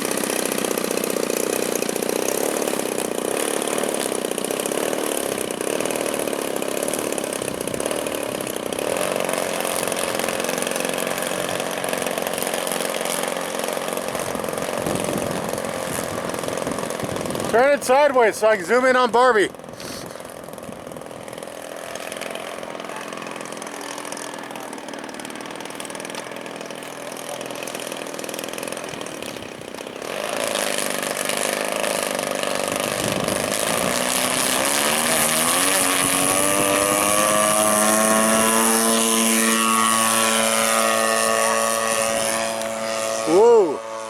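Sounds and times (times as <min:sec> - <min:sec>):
model airplane motor and propeller: 0:00.0 - 0:44.0.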